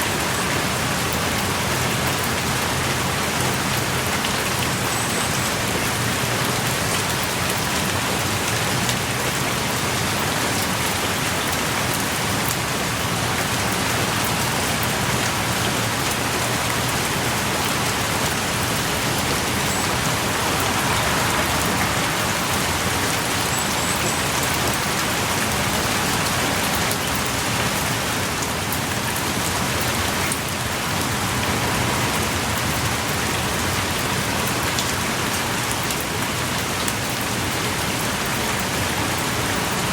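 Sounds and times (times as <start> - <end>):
heavy rain on forest: 0.0 - 39.9.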